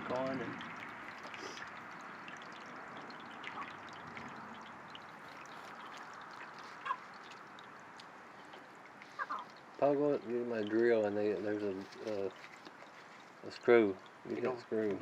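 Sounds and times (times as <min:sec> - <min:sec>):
water running into a bowl: 0:00.0 - 0:15.0.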